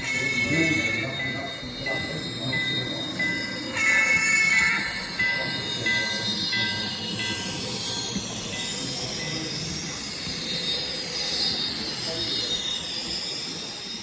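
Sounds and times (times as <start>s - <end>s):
high-pitched squealing: 0.0s - 14.0s
model train rumbling on track: 0.0s - 14.0s.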